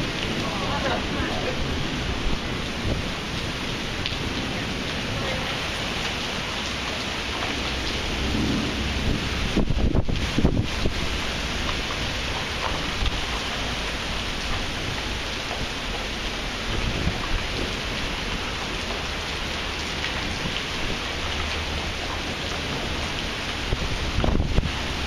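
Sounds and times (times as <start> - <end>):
low thunder rumble: 0.0 - 15.7, 16.4 - 24.9
heavy rain on pavement and cars: 0.0 - 25.0.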